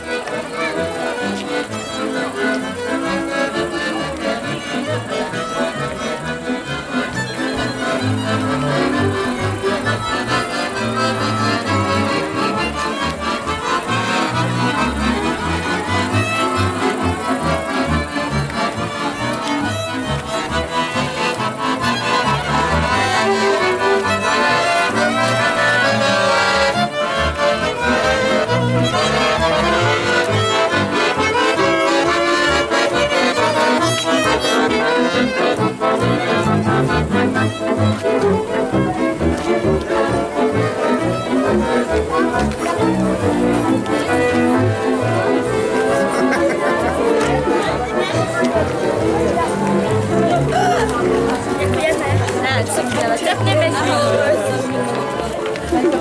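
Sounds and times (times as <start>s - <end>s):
accordion music: 0.0s - 56.0s.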